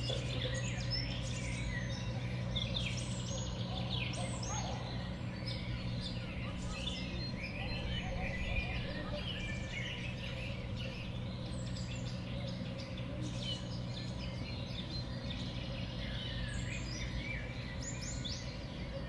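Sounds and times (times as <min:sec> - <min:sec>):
low background hum: 0:00.0 - 0:19.0
songbirds chirping: 0:00.0 - 0:19.0.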